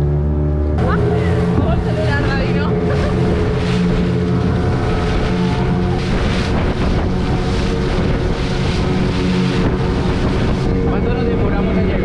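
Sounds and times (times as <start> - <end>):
motorboat engine running: 0.0 - 12.0
water rushing along hull: 0.0 - 12.0
wind buffeting microphone: 0.8 - 12.0.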